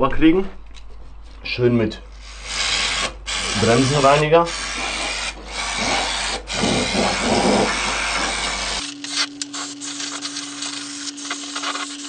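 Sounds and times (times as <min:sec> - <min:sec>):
hot-air gun blower hum: 0:02.1 - 0:12.0
aerosol spray hissing: 0:02.2 - 0:12.0.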